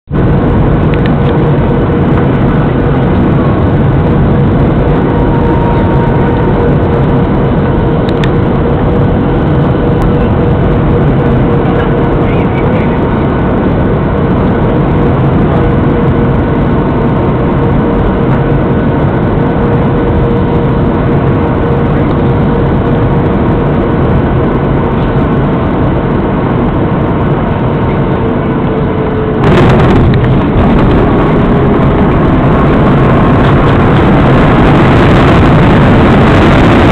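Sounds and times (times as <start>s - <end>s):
faint sinking whine: 0.1s - 36.9s
jet cabin engine and airflow noise: 0.1s - 36.9s.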